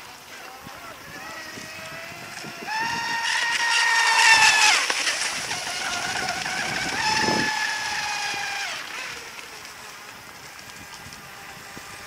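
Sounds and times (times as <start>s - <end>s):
rc boat motor whining: 0.0s - 12.0s.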